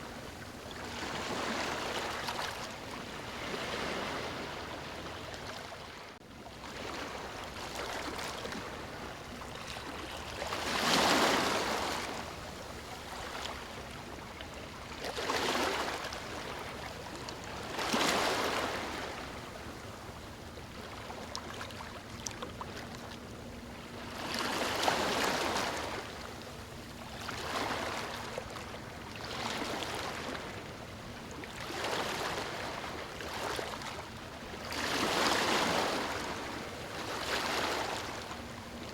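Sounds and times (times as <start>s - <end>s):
ocean waves breaking on beach: 0.0s - 19.5s, 24.0s - 38.9s.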